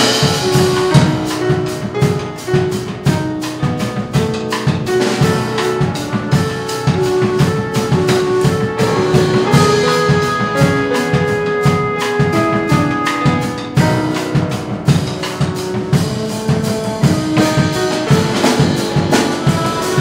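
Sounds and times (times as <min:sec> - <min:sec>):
drum kit beat: 0:00.0 - 0:20.0.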